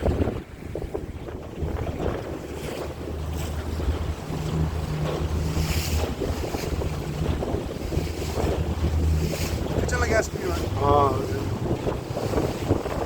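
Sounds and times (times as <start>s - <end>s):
boat motor humming: 0.0s - 13.0s
water washing against hull: 0.0s - 13.0s
wind buffeting microphone: 0.0s - 13.0s.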